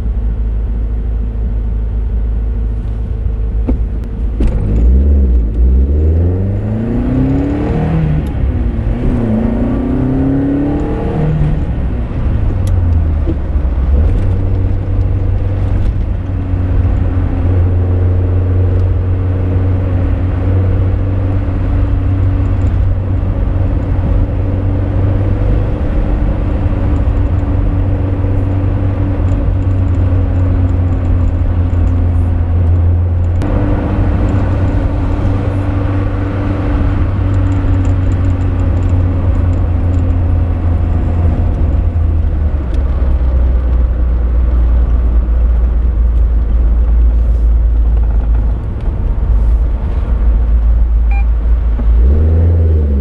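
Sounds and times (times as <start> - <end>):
car engine accelerating: 1.2 - 53.0.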